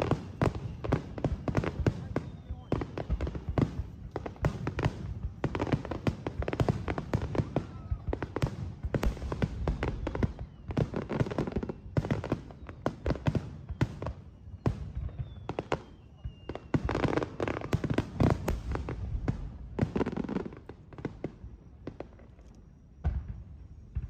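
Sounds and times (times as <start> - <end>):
fireworks bangs: 0.0 - 22.3, 23.0 - 24.0
fireworks crackling: 0.0 - 24.0.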